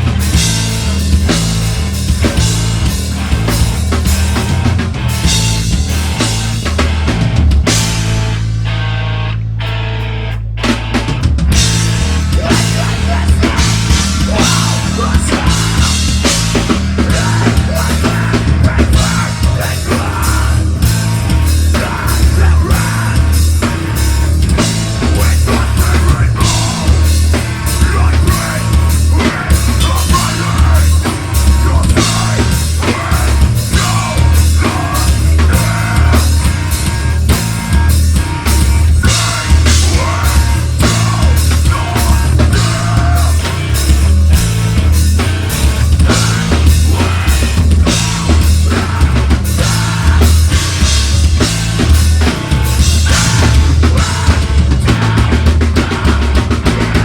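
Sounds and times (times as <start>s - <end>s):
distorted guitars: 0.0s - 57.0s
heavy bass: 0.0s - 57.0s
pounding drum kit: 0.0s - 57.0s.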